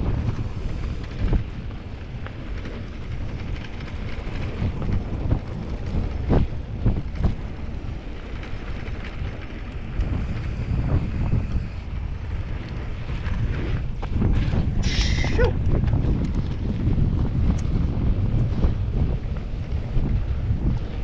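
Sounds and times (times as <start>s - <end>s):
bike frame and chain clattering: 0.0s - 16.9s
tyres rumbling on dirt: 0.0s - 21.0s.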